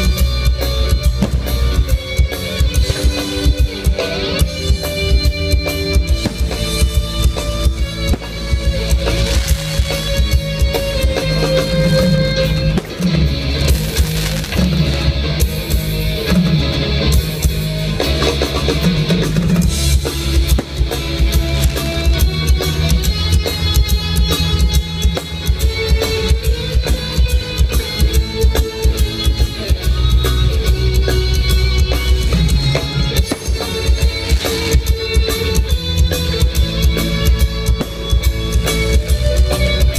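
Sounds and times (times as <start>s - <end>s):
band music: 0.0s - 39.9s
steady drum beat: 0.0s - 39.9s
strong bass line: 0.0s - 39.9s.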